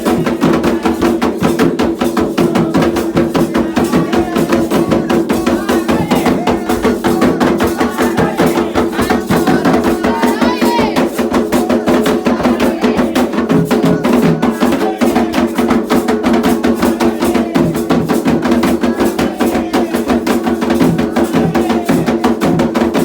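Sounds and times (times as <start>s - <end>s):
fast hand drumming: 0.0s - 23.0s
wood block beat: 0.0s - 23.0s.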